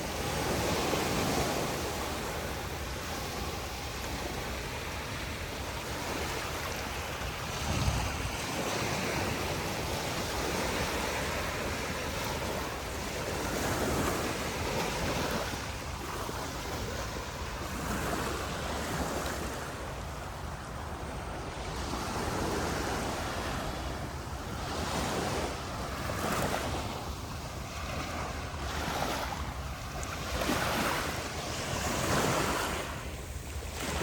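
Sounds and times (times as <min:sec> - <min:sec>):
sea waves breaking on beach: 0:00.0 - 0:34.0
wind on microphone: 0:00.0 - 0:34.0.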